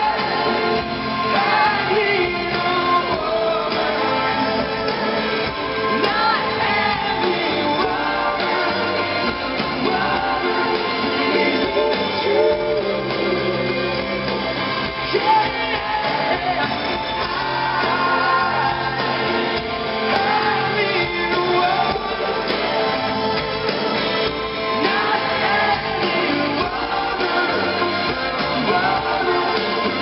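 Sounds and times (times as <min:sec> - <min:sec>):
live pop-rock band: 0:00.0 - 0:30.0.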